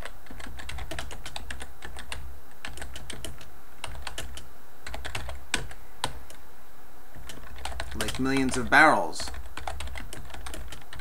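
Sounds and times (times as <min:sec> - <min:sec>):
typing on computer keyboard: 0:00.0 - 0:06.2, 0:07.2 - 0:11.0.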